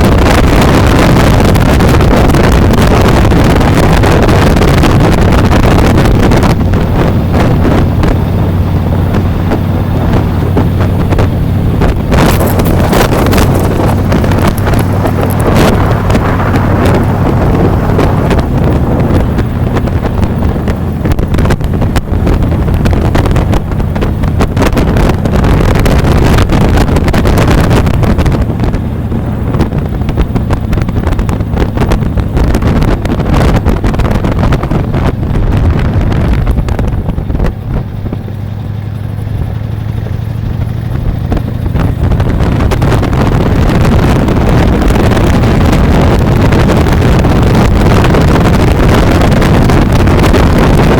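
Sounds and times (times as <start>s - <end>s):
motorcycle engine running: 0.0s - 50.9s
wind buffeting microphone: 0.0s - 50.9s.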